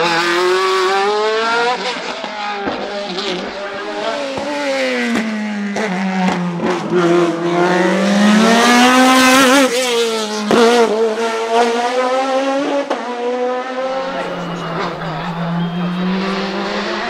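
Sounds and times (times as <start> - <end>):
race car accelerating: 0.0 - 17.0.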